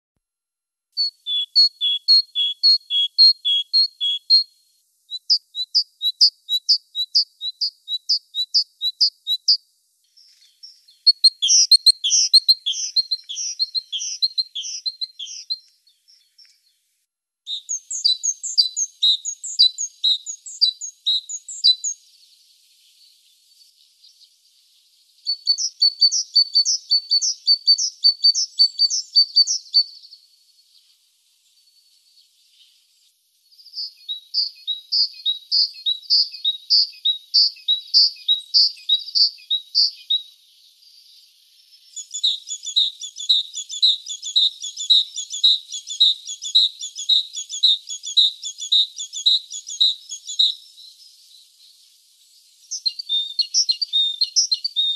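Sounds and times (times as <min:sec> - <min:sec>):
great tit singing: 0:01.0 - 0:16.7, 0:17.5 - 0:24.2, 0:24.9 - 0:30.7, 0:33.5 - 0:54.9.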